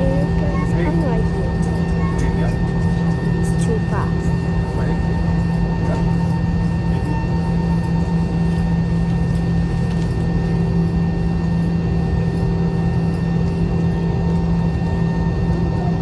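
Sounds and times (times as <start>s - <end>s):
airliner cabin drone: 0.0s - 16.0s
faint steady whining tones: 0.0s - 16.0s.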